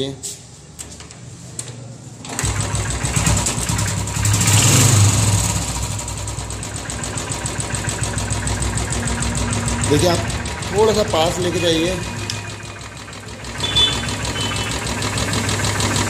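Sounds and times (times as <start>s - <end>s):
motorcycle engine starting and idling: 1.1s - 16.0s.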